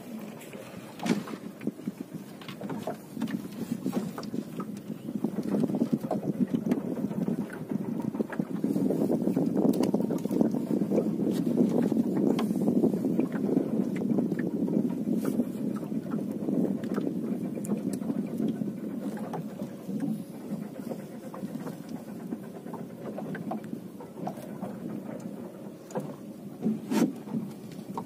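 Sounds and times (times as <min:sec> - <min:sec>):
water moving around boat: 0:00.0 - 0:28.0
wind buffeting microphone: 0:00.0 - 0:28.0.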